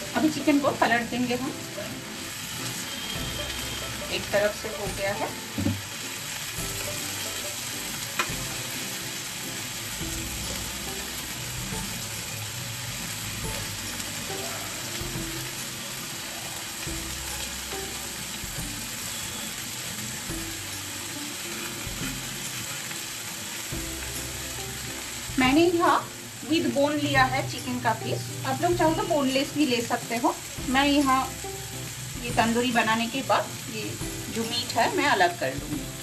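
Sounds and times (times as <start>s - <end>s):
chicken sizzling in grill pan: 0.0s - 36.0s.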